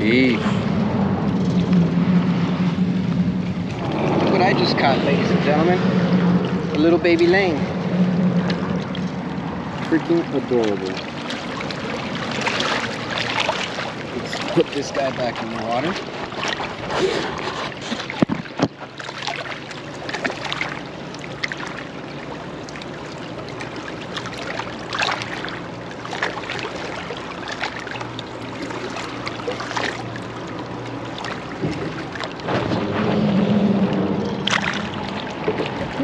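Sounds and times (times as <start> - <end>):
low steady hum: 0.0 - 36.0
water moving: 0.0 - 36.0.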